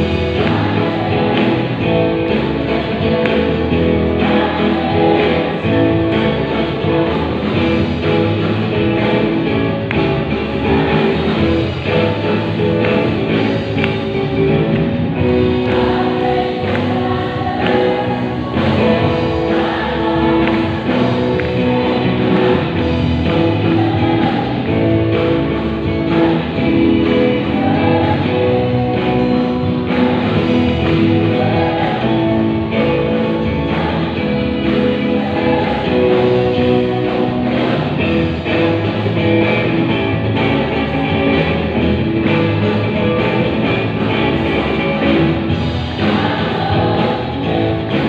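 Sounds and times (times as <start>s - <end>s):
keyboard and band accompaniment: 0.0s - 48.0s
youth choir singing gospel: 0.0s - 48.0s.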